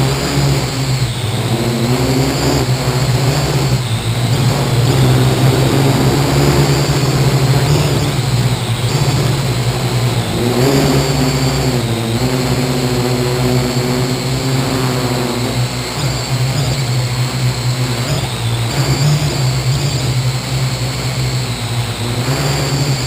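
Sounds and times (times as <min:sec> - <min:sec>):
drone propellers whirring: 0:00.0 - 0:23.0.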